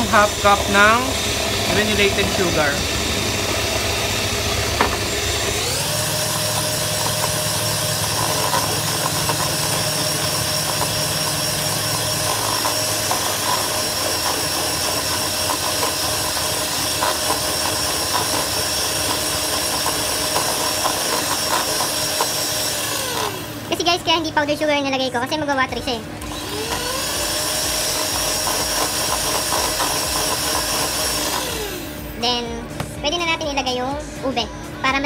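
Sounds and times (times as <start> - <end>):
electric hand mixer whining: 0.0 - 35.0.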